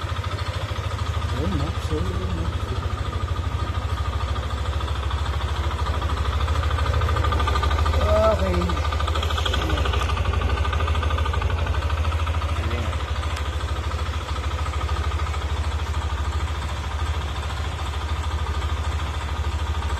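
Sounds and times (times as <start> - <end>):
scooter engine idling: 0.0 - 19.9.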